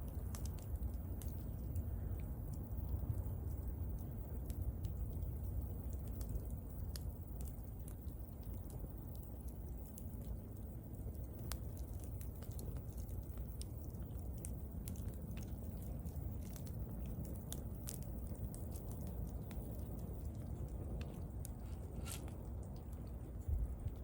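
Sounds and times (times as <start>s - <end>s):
bonfire crackling and popping: 0.0s - 24.0s
low rumble of burning fire: 0.0s - 24.0s.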